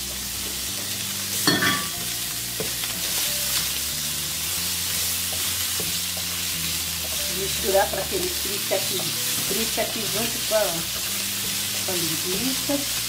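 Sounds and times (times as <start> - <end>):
sausage sizzling in a frying pan: 0.0 - 13.0.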